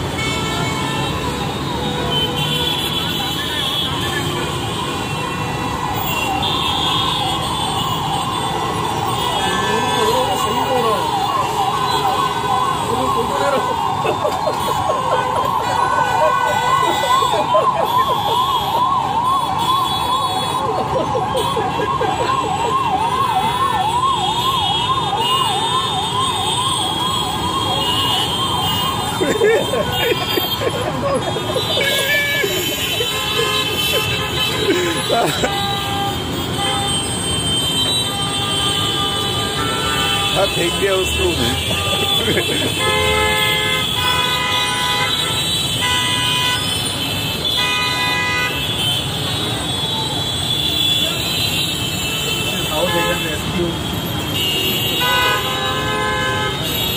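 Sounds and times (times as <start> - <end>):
fire engine siren wailing: 0.0 - 47.7
low traffic rumble: 0.0 - 56.9
street noise: 0.0 - 56.9
vehicle horns honking: 0.0 - 56.9.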